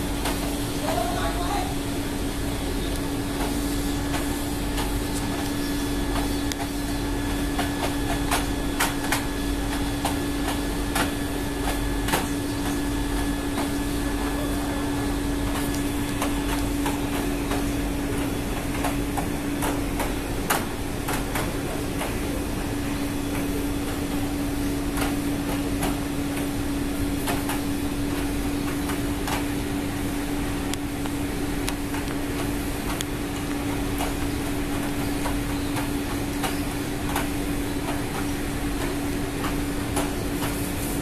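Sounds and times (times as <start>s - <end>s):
machinery hum: 0.0s - 41.0s.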